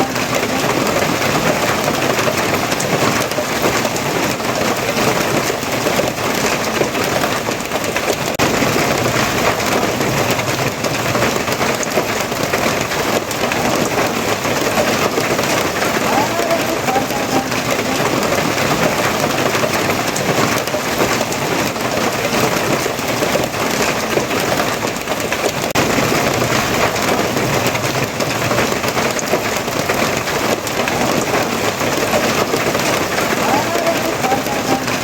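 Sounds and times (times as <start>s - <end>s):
heavy rain patter: 0.0s - 35.0s.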